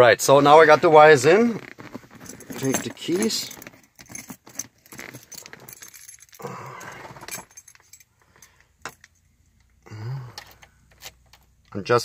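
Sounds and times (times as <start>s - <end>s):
car keys jangling: 1.6s - 11.8s.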